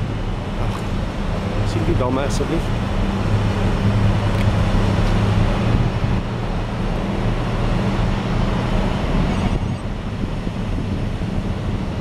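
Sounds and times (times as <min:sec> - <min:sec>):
heavy machinery drone: 0:00.0 - 0:12.0.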